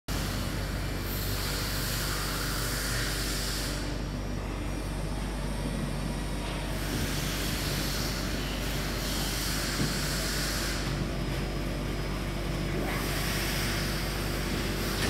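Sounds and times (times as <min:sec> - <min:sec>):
machine mechanical hum: 0:00.1 - 0:15.0.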